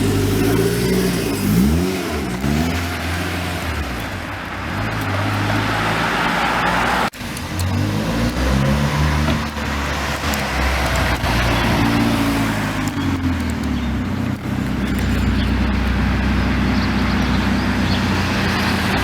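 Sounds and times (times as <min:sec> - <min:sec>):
car engine revving: 0:00.0 - 0:19.0
car engine running: 0:00.0 - 0:19.0.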